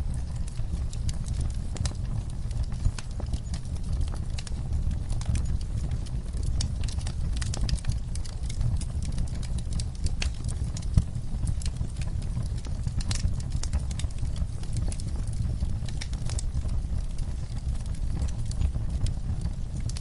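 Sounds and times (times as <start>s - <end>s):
low rumble of flames: 0.0s - 20.0s
sharp pops and snaps of fire: 0.0s - 20.0s.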